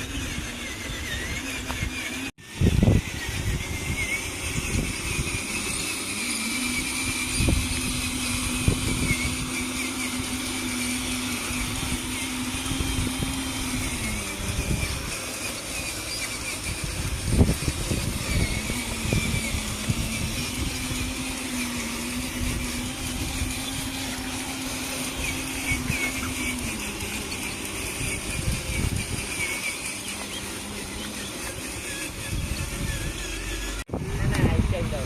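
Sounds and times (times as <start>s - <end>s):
small electric motors whining: 0.0s - 35.0s.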